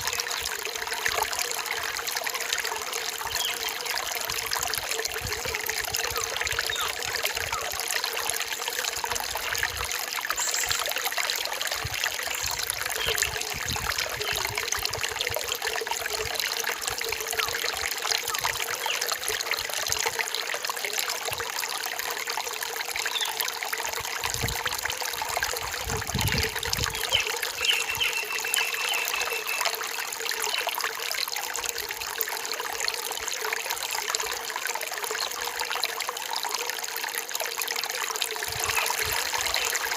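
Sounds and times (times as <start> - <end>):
forest stream trickling and splashing: 0.0 - 39.9.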